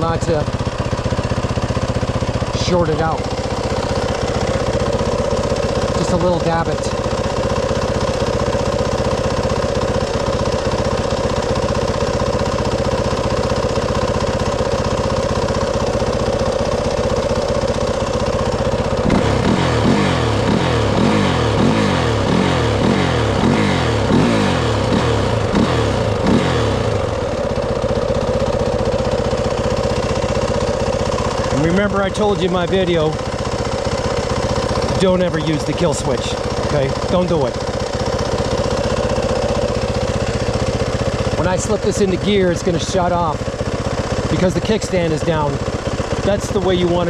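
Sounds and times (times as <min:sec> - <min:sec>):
motorcycle engine idling: 0:00.0 - 0:47.0
motorcycle throttle blips: 0:00.0 - 0:47.0.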